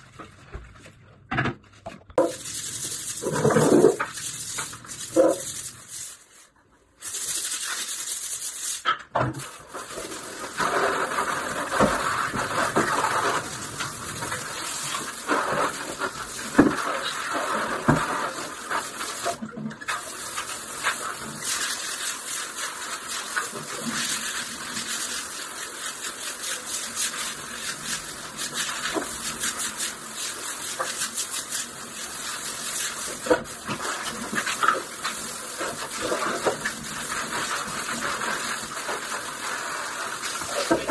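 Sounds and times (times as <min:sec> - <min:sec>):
water spraying onto tiled floor: 0:02.2 - 0:40.9.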